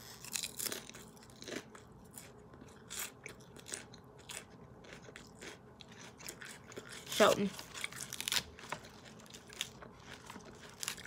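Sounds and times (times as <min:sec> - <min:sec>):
crunching lettuce salad: 0:00.0 - 0:11.0.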